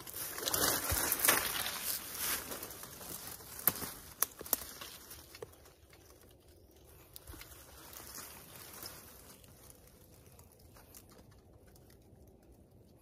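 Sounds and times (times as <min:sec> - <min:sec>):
dry leaves rustling: 0:00.0 - 0:12.7.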